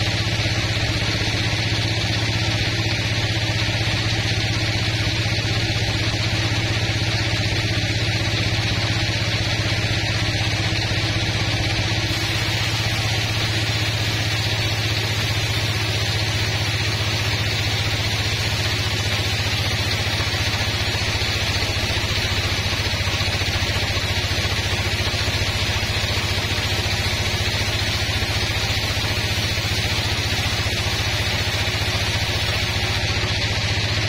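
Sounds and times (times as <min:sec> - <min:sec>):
band saw cutting through log: 0:00.0 - 0:34.0.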